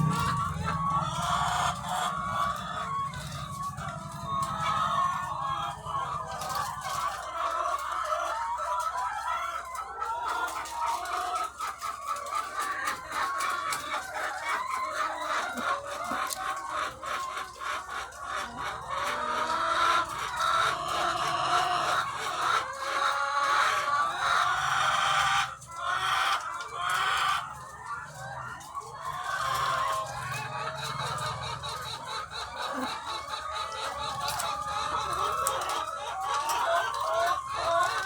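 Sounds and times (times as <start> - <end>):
hens clucking: 0.0 - 38.0.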